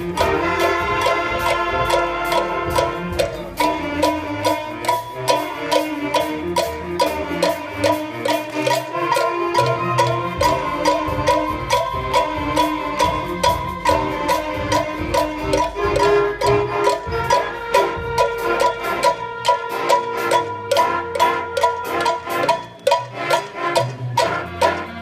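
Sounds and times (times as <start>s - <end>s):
concert band playing: 0.0s - 25.0s
cowbells struck: 0.0s - 25.0s.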